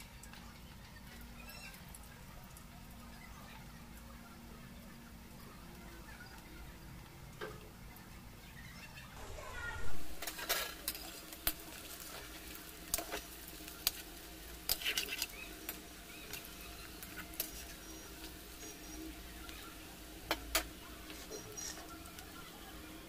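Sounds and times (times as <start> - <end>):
deep-frying sizzle in oil: 0.0 - 23.0.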